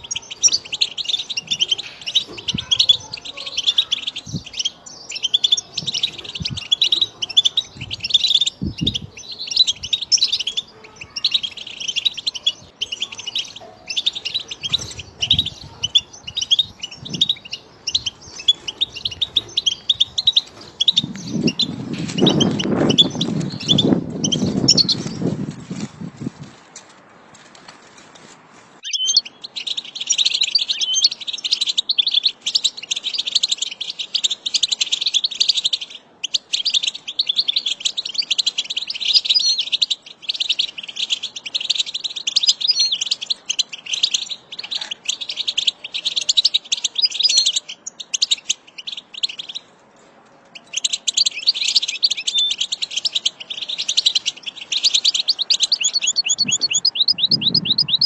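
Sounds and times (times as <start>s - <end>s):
finch twittering song: 0.0s - 25.4s, 28.8s - 49.7s, 50.5s - 58.0s.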